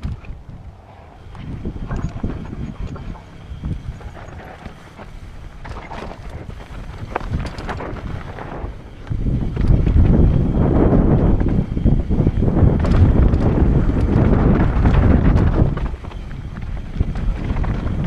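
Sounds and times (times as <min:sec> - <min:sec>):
bike rattling over bumps: 0:00.0 - 0:18.0
tyres rolling over dirt: 0:00.0 - 0:18.0
wind buffeting microphone: 0:00.0 - 0:18.0.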